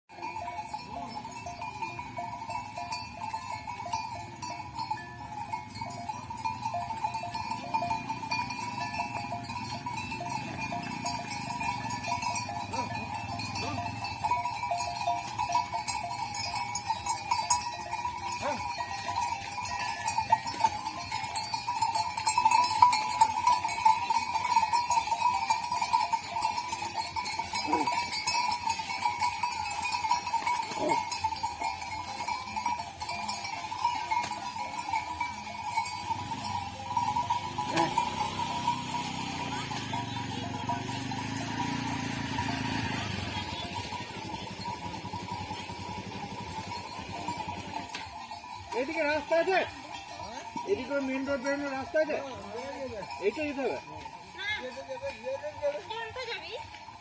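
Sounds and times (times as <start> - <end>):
cow bells clanking: 0.1 - 57.0.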